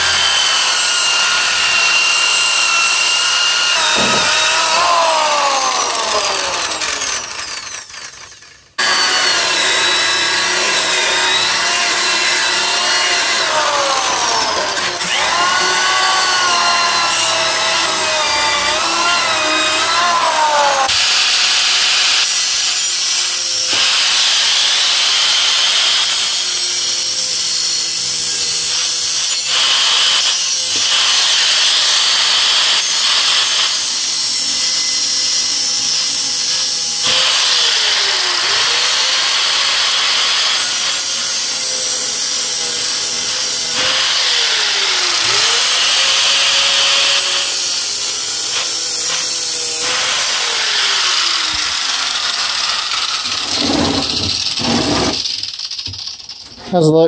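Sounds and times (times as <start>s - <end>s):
angle grinder cutting steel: 0.0s - 56.6s.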